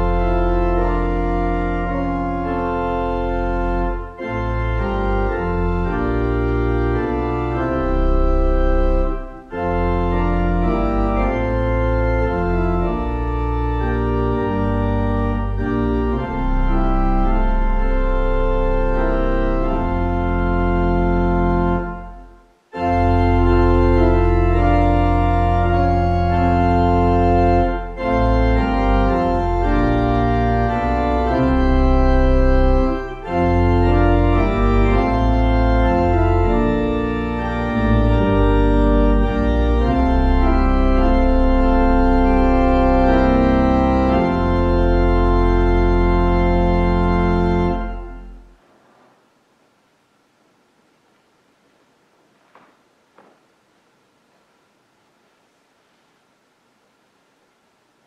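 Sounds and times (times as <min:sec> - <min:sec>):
organ playing held chords: 0:00.0 - 0:48.6.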